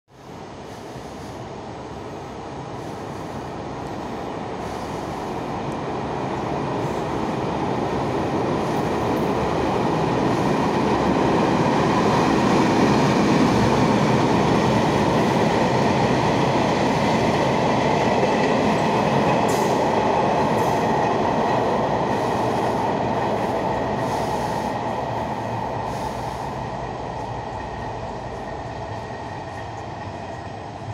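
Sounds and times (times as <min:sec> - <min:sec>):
train wheels rumbling on rails: 0:00.1 - 0:30.9.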